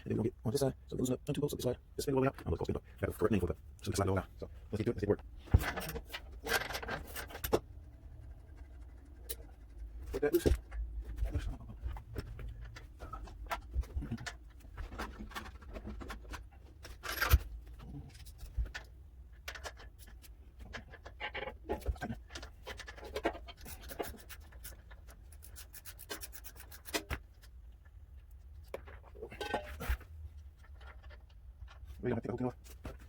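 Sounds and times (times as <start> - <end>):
tools clinking and rubbing: 5.5 - 32.0.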